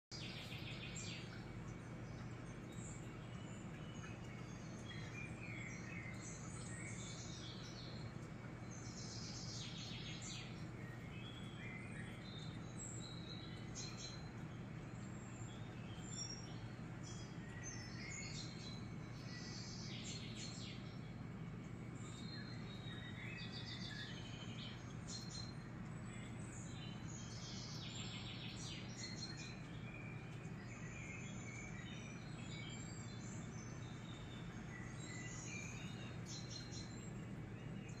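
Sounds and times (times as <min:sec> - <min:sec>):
faint bird chirps: 0:00.1 - 0:38.0
steady low hum: 0:00.1 - 0:38.0.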